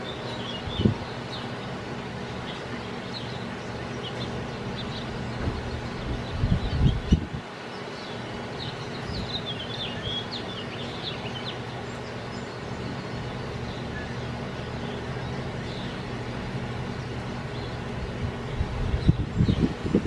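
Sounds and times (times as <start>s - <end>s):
low background hum: 0.0s - 20.0s
small songbirds chirping: 0.0s - 20.0s.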